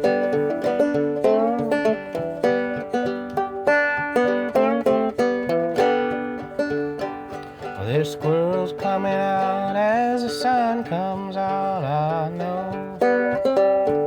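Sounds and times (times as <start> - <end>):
banjo picking: 0.0 - 14.0.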